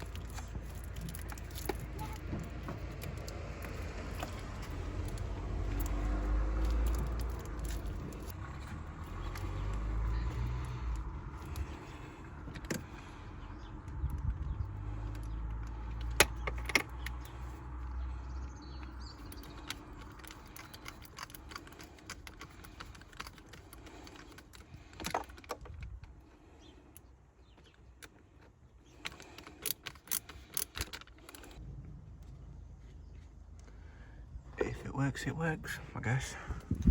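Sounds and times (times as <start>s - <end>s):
clicks and rattles of hand work: 0.0s - 17.6s, 18.8s - 31.6s.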